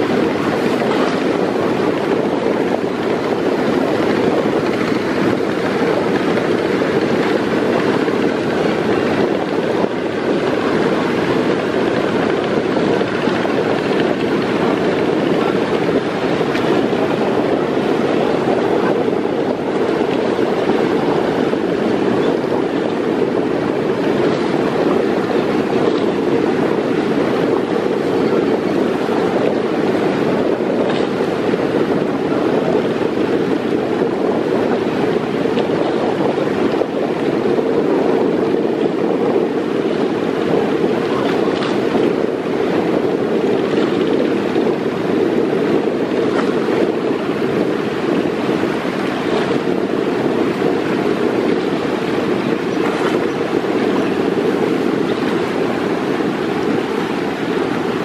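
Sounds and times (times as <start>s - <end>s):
boat bow through rough water: 0.0s - 58.0s
wind rushing: 0.0s - 58.0s.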